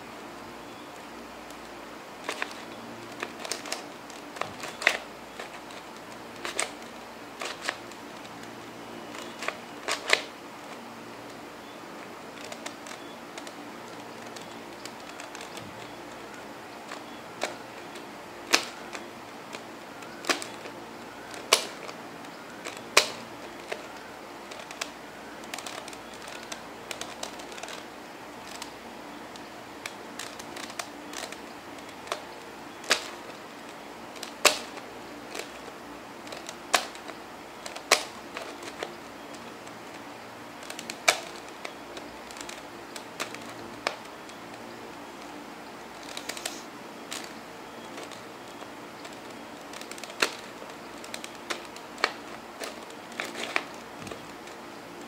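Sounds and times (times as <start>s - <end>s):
puzzle cube clicking: 0.9s - 55.0s.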